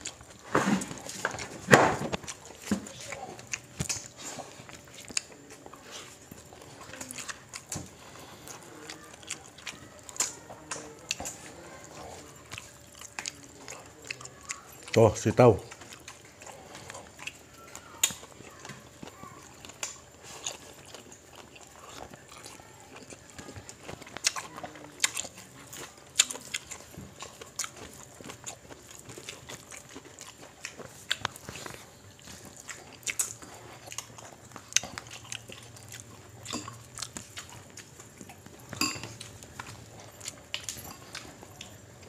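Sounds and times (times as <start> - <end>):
chewing: 0.0 - 42.0.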